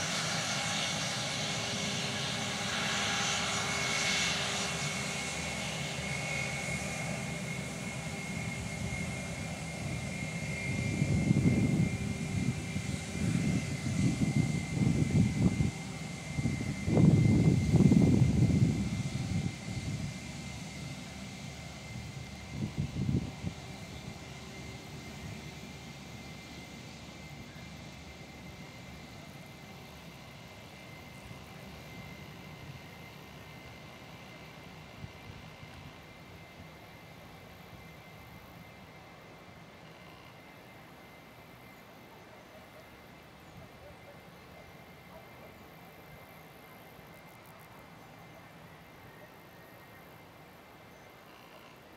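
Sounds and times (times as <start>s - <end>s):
jet engine rushing with high whine: 0.0s - 51.9s.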